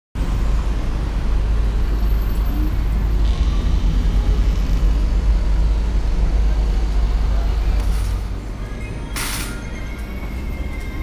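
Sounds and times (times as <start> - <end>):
cars passing: 0.2 - 11.0
heavy low traffic rumble: 0.2 - 11.0.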